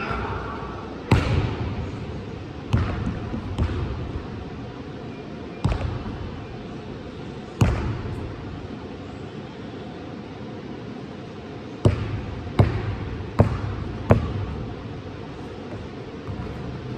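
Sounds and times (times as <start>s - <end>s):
basketball bouncing in a hall: 0.0s - 9.0s, 11.8s - 16.9s.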